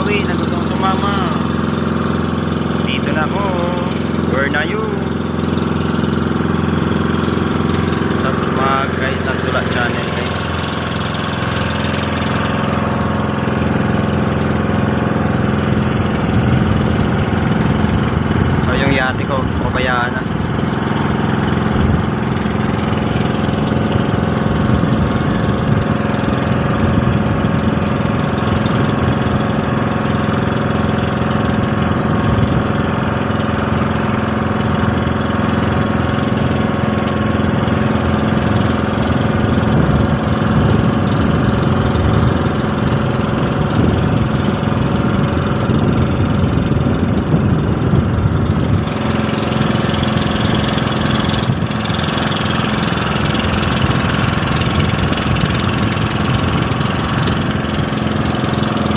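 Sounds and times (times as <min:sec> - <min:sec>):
small boat engine humming: 0:00.0 - 0:58.9.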